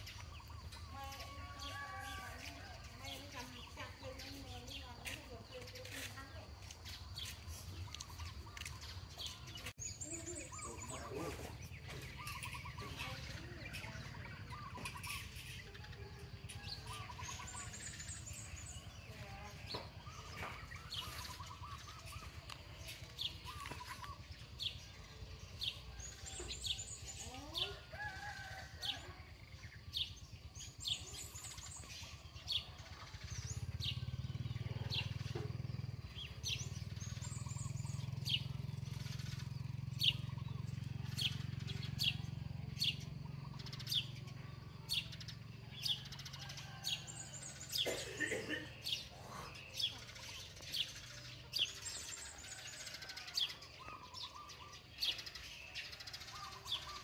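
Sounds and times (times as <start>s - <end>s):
birds chirping: 0.0s - 57.0s
lower bird calls: 5.5s - 29.2s, 29.8s - 57.0s.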